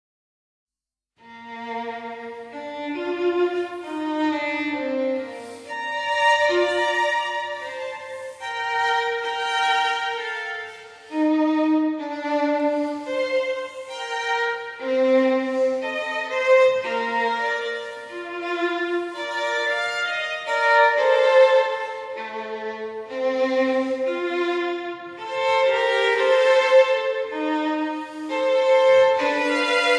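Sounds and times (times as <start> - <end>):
slow violin melody: 1.2 - 29.9.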